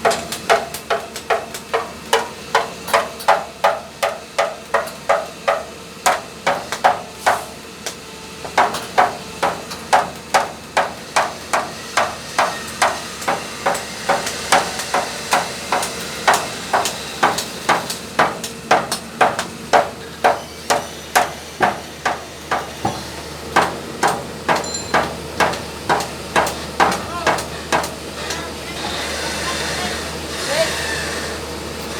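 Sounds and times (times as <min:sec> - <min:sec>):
hammer striking: 0:00.0 - 0:07.4, 0:08.5 - 0:28.4.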